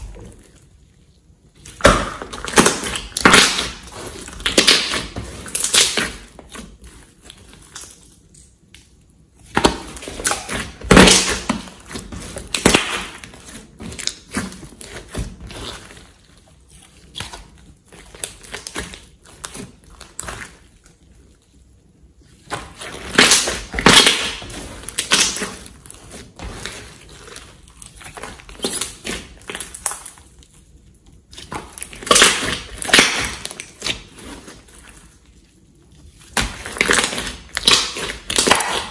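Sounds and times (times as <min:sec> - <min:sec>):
wet squishing slime: 0:00.0 - 0:38.9.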